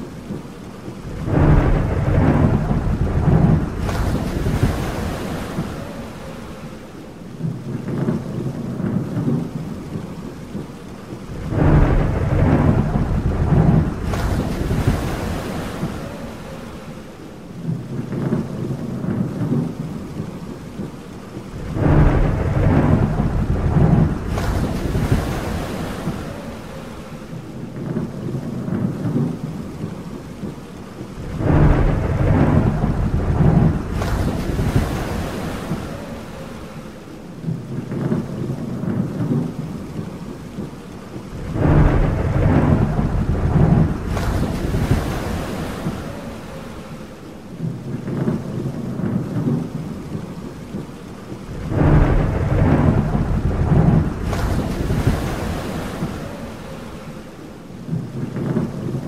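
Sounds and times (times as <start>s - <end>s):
rain hissing: 0.0s - 58.3s
thunder rolling: 0.3s - 10.6s, 11.2s - 59.0s.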